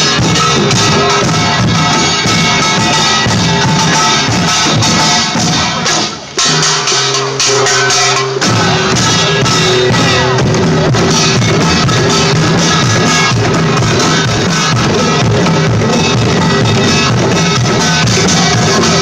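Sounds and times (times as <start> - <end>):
drums: 0.0 - 19.0.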